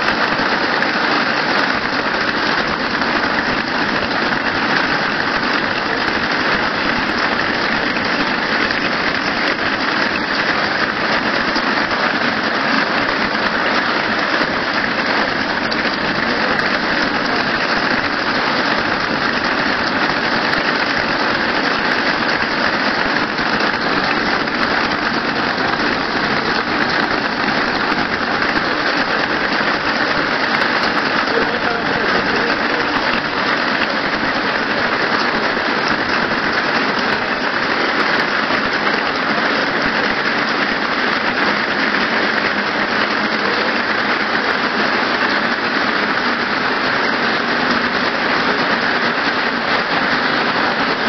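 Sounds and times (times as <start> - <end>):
wire braiding machine running: 0.0 - 51.0.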